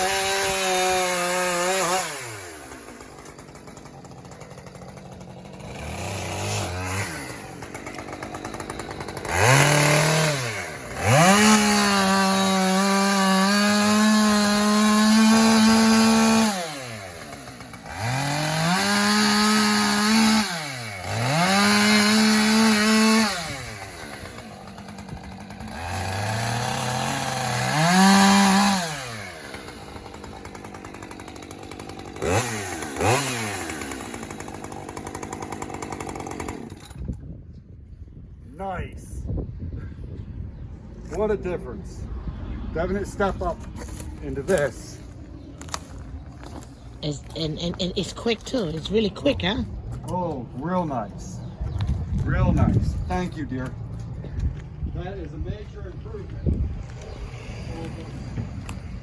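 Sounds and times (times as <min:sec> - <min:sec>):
chainsaw revving and idling: 0:00.0 - 0:37.2, 0:43.2 - 0:51.5, 0:56.0 - 0:59.0.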